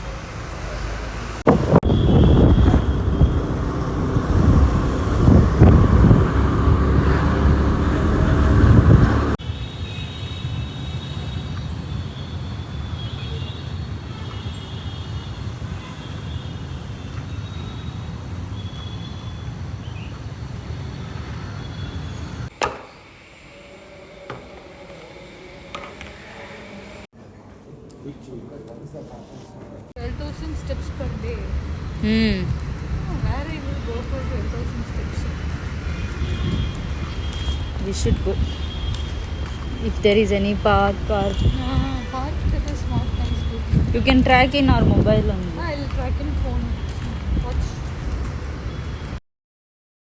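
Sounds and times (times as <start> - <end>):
road traffic passing: 0.0 - 24.0, 30.0 - 49.2.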